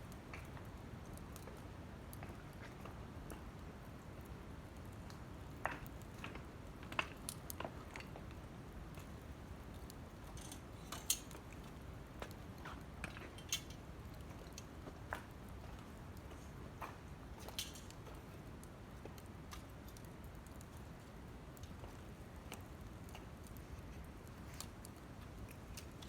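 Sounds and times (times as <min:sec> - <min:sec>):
low rush of flames: 0:00.0 - 0:26.0
wood fire crackling: 0:00.0 - 0:26.0.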